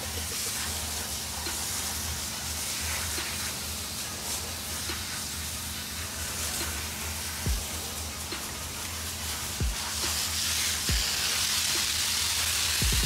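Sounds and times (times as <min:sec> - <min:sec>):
pressure washer jet hissing: 0:00.0 - 0:13.0.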